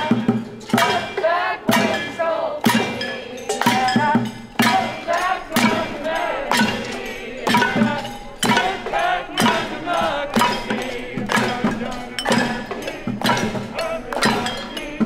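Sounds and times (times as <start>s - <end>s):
crowd singing: 0.0s - 15.0s
pots and pans struck: 0.0s - 15.0s
handclaps: 2.7s - 15.0s.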